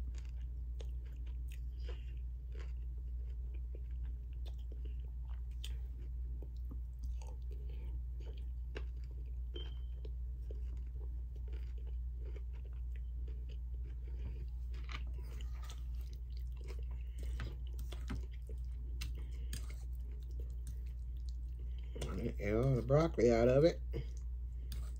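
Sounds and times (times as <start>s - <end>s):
person chewing food: 0.0s - 23.1s, 23.8s - 24.9s
steady low hum: 0.0s - 24.9s.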